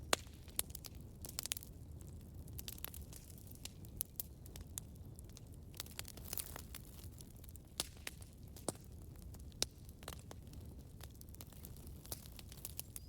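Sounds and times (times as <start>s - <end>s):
fire crackles and pops: 0.0s - 13.0s
wood fire rumble: 0.0s - 13.0s.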